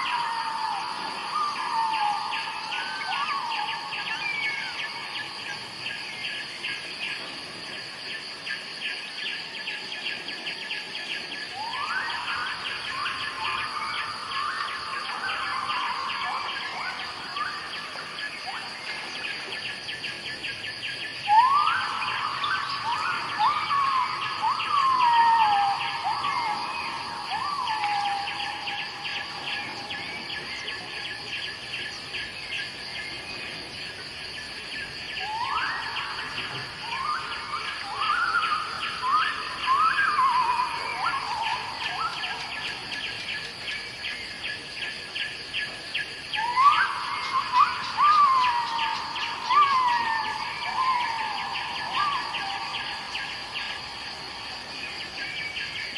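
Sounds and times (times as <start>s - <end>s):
bird calls: 0.0s - 7.4s, 8.1s - 33.6s, 34.6s - 55.9s
insects chorus pulsing: 0.0s - 55.9s.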